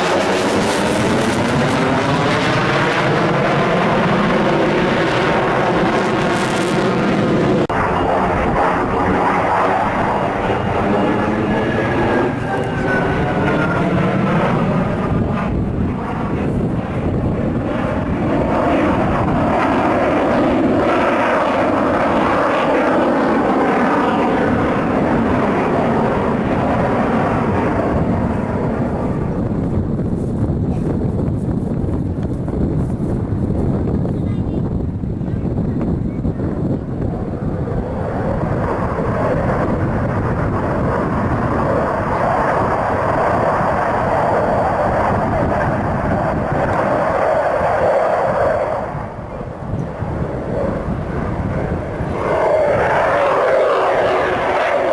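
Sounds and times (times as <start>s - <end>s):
jet engine rumble in flight: 0.0s - 54.9s.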